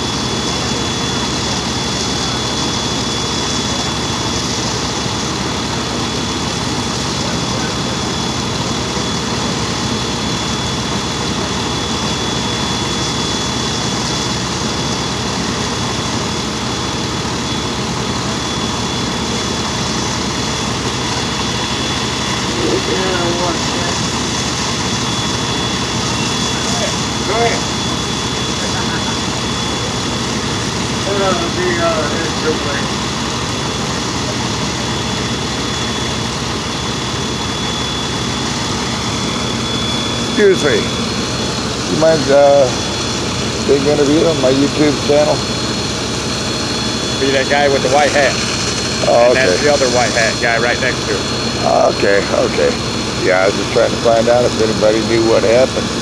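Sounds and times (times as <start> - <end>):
fire truck engine whining: 0.0 - 56.0.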